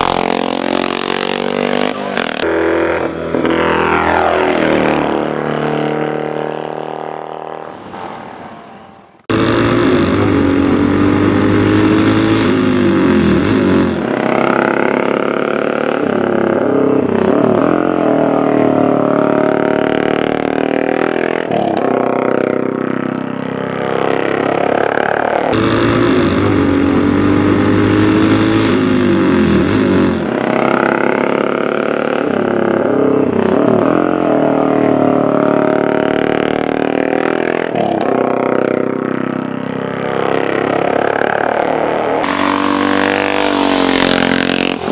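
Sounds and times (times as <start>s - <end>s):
racing motorcycles revving past: 0.0s - 8.0s, 9.3s - 44.9s.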